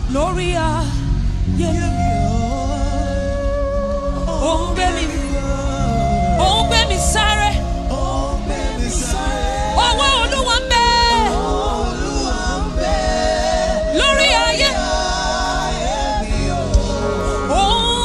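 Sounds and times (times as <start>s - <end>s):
backing voices: 0.0s - 18.0s
band with bass pulse: 0.0s - 18.0s
lead singer: 0.0s - 18.0s.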